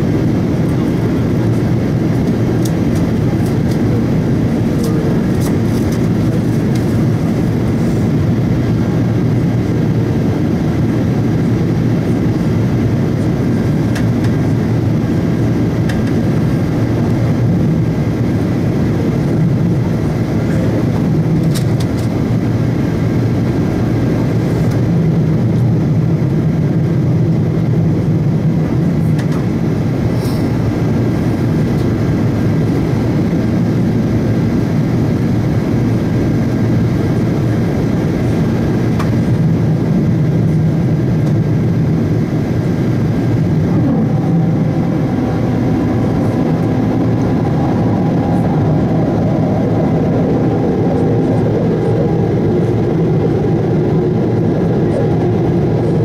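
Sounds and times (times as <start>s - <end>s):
air rushing over fuselage: 0.0s - 56.0s
jet engines humming: 0.0s - 56.0s.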